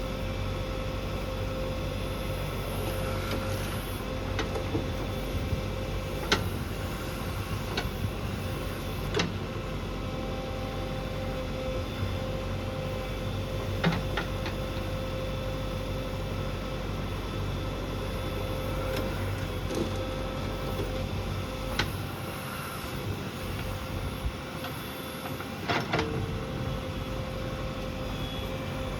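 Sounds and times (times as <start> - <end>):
constant whine: 0.0 - 28.9
diesel engine running: 0.0 - 28.9.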